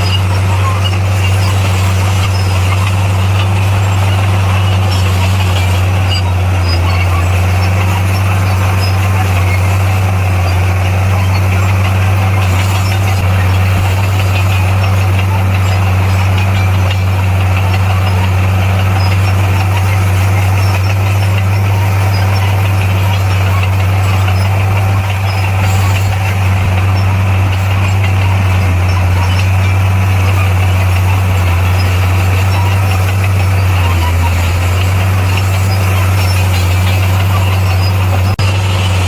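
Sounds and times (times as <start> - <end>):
bulldozer diesel engine droning: 0.0 - 39.0.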